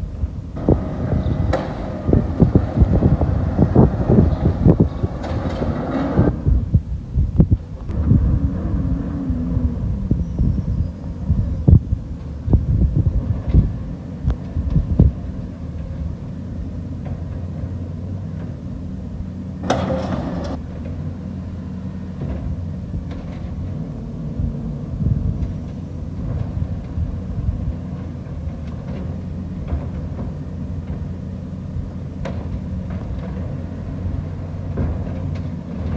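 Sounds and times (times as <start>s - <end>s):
garbage truck diesel engine: 0.0s - 7.0s, 7.6s - 35.9s.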